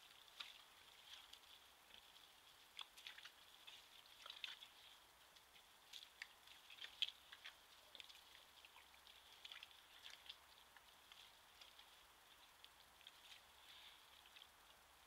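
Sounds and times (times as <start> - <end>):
thin steady high hiss: 0.0 - 15.0
wet clicks and smacks in mud: 0.1 - 14.8.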